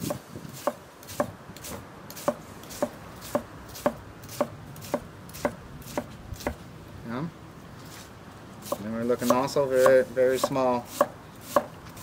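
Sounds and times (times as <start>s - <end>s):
knife chopping on wooden board: 0.0s - 6.6s, 8.6s - 12.0s.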